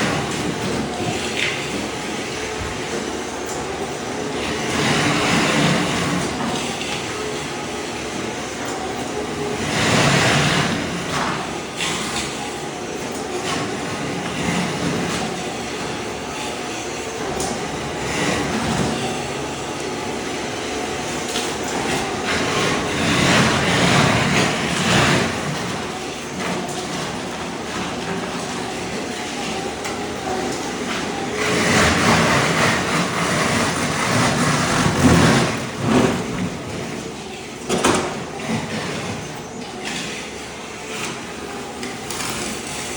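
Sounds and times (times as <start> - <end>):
floor scraper scraping: 0.0 - 42.9.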